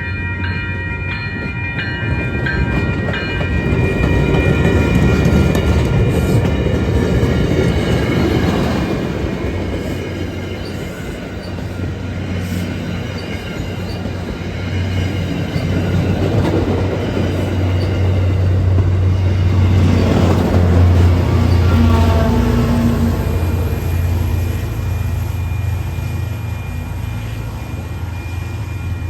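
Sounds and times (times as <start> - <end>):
diesel train passing: 0.0 - 29.0
wheel and rail noise: 0.0 - 29.0.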